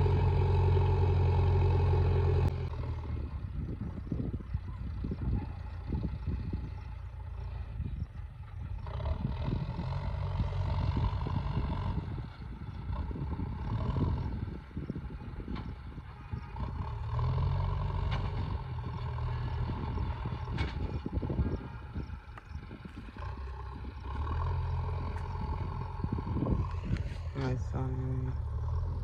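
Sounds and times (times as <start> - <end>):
distant diesel engines working: 0.0 - 29.0
wind buffeting microphone: 2.7 - 28.0.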